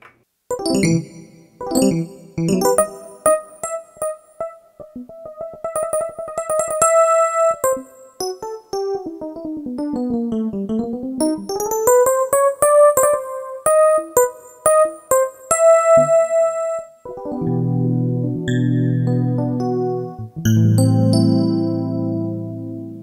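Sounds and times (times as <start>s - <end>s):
electric piano synth notes: 0.5s - 14.9s, 15.5s - 22.8s.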